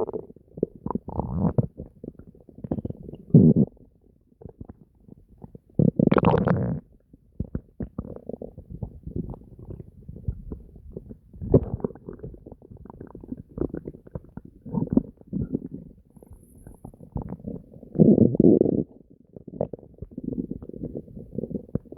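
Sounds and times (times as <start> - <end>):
stomach gurgling and rumbling: 0.0 - 21.9.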